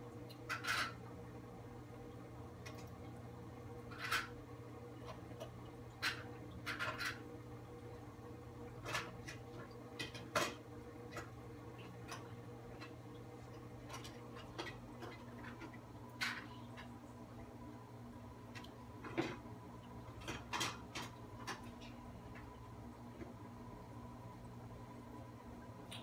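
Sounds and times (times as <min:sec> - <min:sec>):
aquarium pumps humming: 0:00.0 - 0:26.0.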